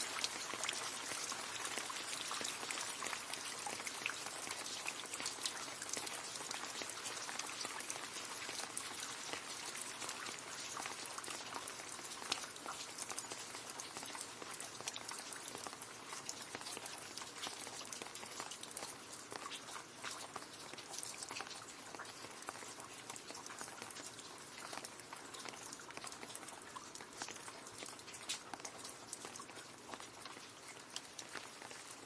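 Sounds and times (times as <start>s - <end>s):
rain falling into a puddle: 0.0s - 32.0s.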